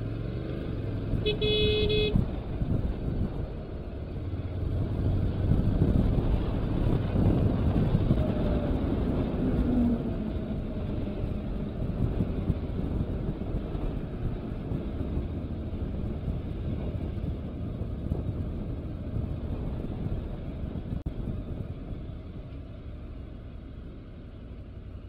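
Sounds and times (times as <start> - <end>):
motorcycle engine riding: 0.0 - 25.0
wind and road rush: 0.0 - 25.0.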